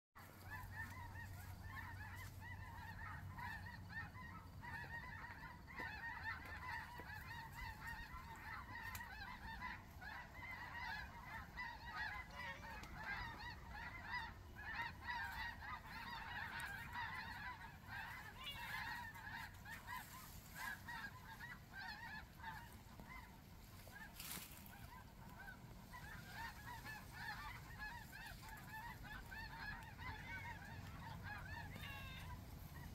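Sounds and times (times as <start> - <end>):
flock of geese honking: 0.2 - 32.9.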